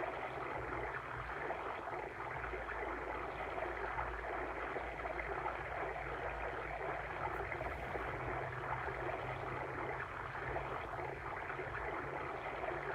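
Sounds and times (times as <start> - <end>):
water stream flowing: 0.0 - 12.9.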